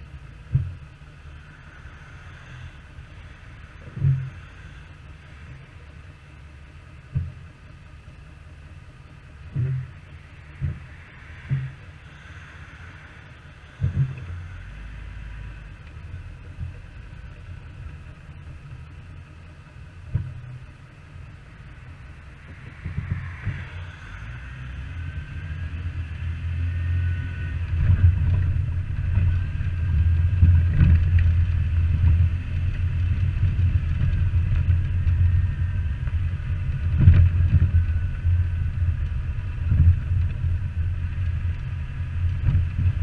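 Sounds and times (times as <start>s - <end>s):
vehicle thudding over bumps: 0.0s - 1.2s, 5.4s - 14.6s, 16.0s - 43.0s
vehicle engine rumble: 0.0s - 43.0s.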